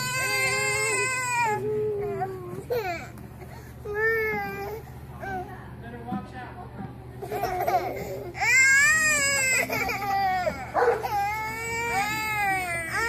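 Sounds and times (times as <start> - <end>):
baby crying: 0.0 - 4.9, 7.4 - 13.0.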